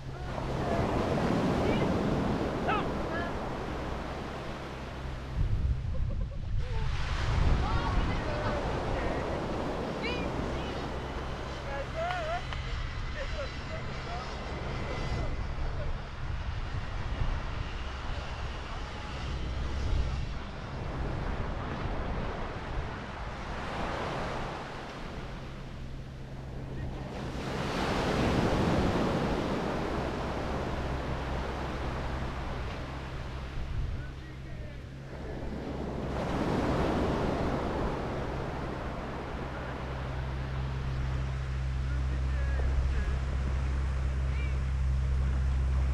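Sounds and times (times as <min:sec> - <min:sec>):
surf washing onto sand: 0:00.0 - 0:05.6, 0:06.6 - 0:45.9
wind rumble on microphone: 0:00.0 - 0:45.9.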